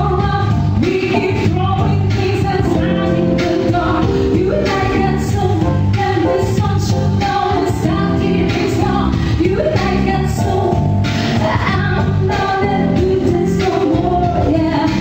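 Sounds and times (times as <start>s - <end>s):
lead vocal singing: 0.0s - 15.0s
pop song played by band: 0.0s - 15.0s.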